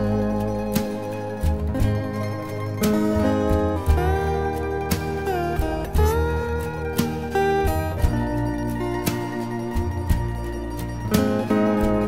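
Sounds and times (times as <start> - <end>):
acoustic guitar background music: 0.0 - 12.0.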